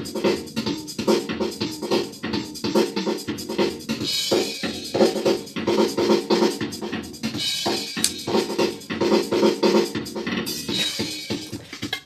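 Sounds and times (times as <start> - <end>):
programmed electronic drum beat: 0.0 - 12.0.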